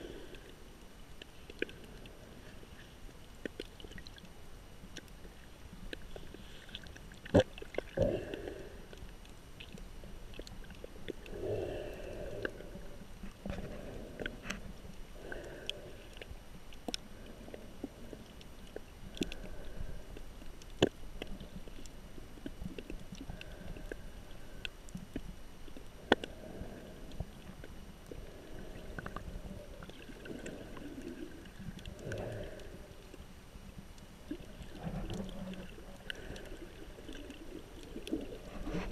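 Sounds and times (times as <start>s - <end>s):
muffled underwater water noise: 0.0s - 38.9s.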